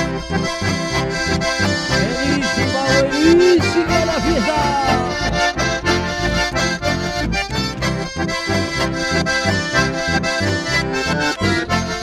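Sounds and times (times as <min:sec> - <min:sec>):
electric bass: 0:00.0 - 0:12.0
guitar: 0:00.0 - 0:12.0
piano accordion: 0:00.0 - 0:12.0.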